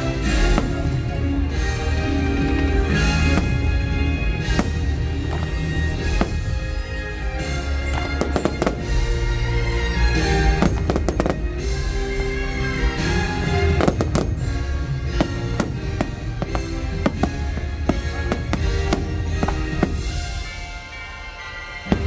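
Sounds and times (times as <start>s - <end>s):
holiday music: 0.0s - 22.0s
fireworks bursting: 0.1s - 1.8s, 2.4s - 9.4s, 10.2s - 22.0s.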